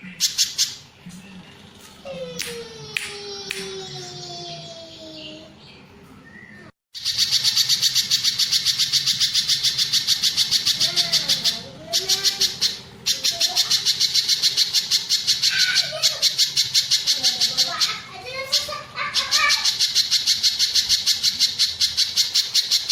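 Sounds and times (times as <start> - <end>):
bird rapid high chirps: 0.0 - 1.1, 5.2 - 22.9.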